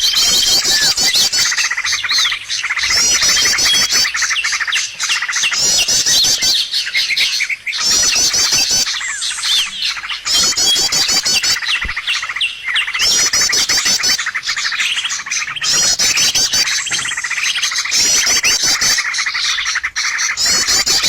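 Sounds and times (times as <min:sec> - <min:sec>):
songbirds trilling and chirping: 0:00.0 - 0:21.0.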